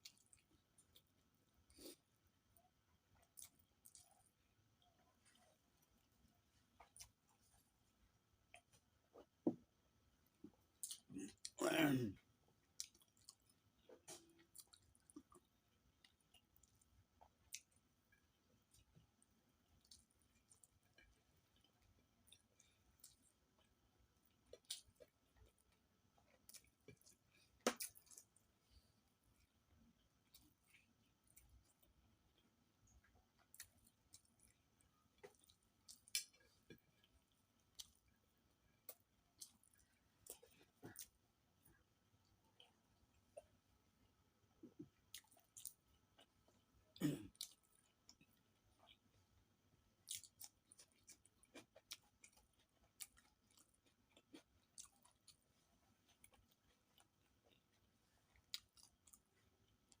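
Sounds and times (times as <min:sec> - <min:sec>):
mouth chewing food: 0:00.0 - 0:09.5, 0:10.2 - 0:43.6, 0:44.6 - 1:00.0.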